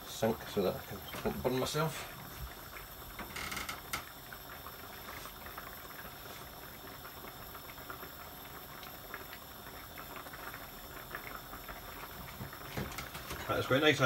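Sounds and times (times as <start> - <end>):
curry bubbling in a pan: 0.0 - 14.0.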